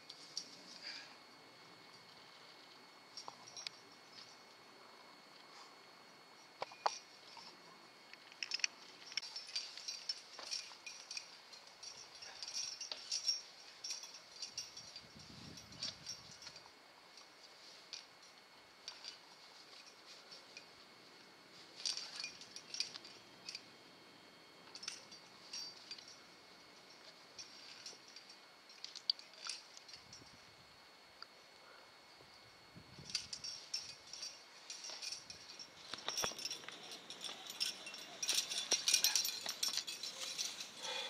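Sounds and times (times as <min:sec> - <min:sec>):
metal climbing gear clinking: 0:00.0 - 0:41.0.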